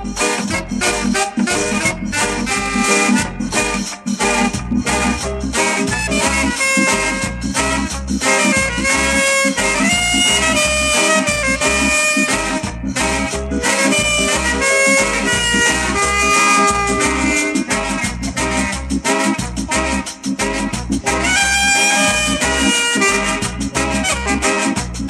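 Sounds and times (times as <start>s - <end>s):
instrumental reggae music: 0.0s - 25.0s.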